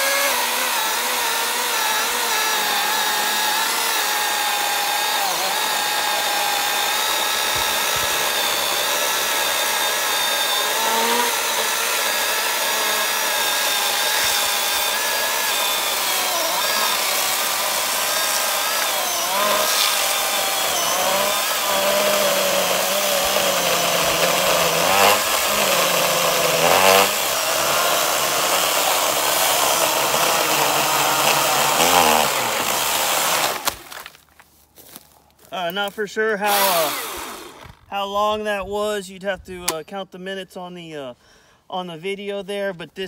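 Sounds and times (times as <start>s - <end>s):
electric chainsaw cutting log: 0.0s - 34.2s, 36.4s - 37.9s.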